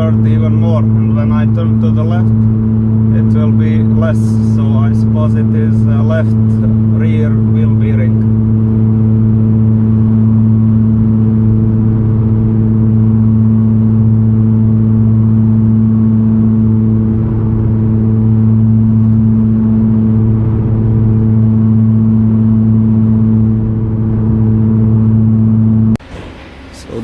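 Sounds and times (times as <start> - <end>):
road noise: 0.0 - 27.0
wheel bearing droning: 0.0 - 27.0.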